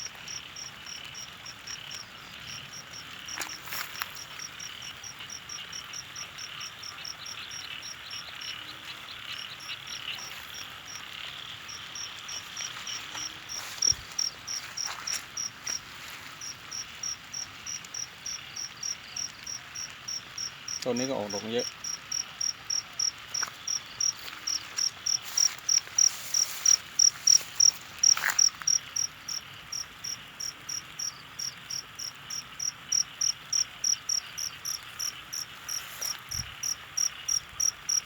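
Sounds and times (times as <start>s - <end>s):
insects chirping: 0.0s - 38.0s
insect buzz: 0.3s - 38.0s.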